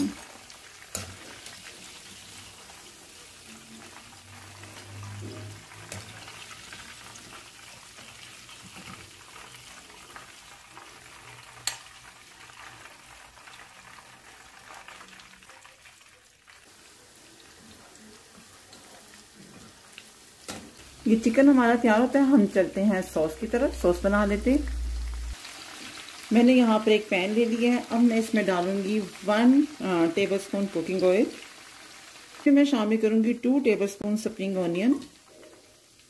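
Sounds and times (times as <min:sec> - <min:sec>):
oil bubbling and sizzling: 0:00.0 - 0:36.0.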